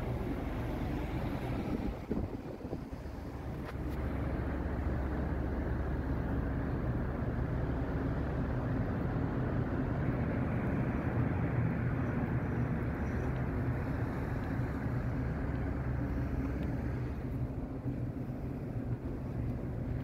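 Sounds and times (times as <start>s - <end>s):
ship engines droning: 0.0s - 20.0s.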